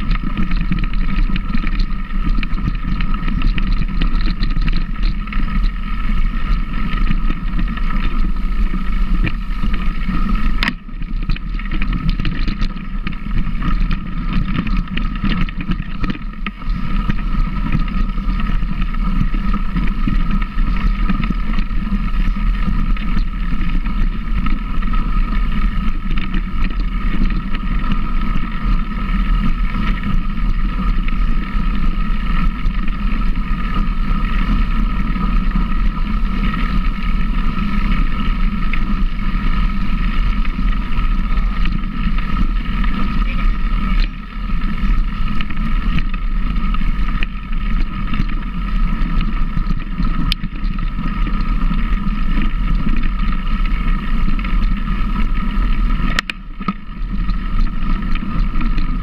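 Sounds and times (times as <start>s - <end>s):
motor running steadily: 0.0s - 59.0s
wind noise on microphone: 0.0s - 59.0s.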